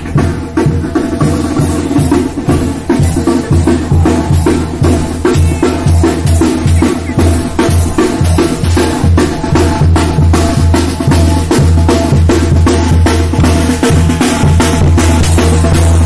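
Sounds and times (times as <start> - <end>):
brass band playing dance tune: 0.0 - 16.0
drum strikes: 0.0 - 16.0.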